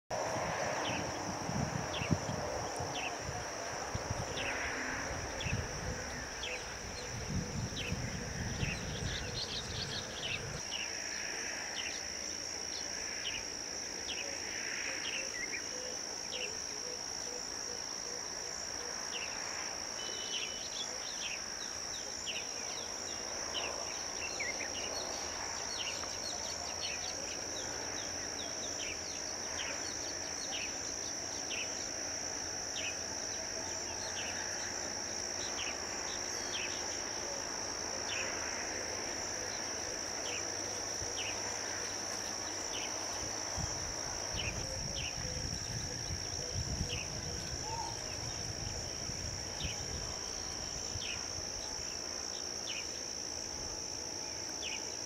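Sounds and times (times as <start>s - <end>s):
insects droning: 0.1s - 55.0s.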